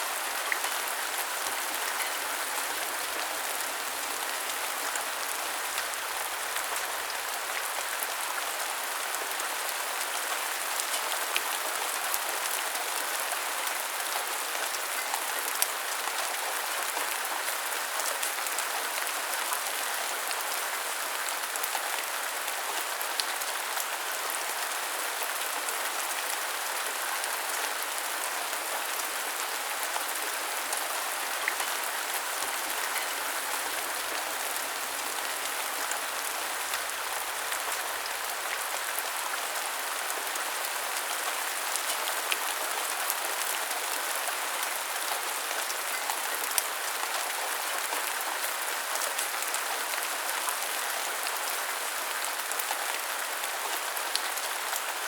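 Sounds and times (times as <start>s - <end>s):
rain pattering on hard surfaces: 0.1s - 51.5s.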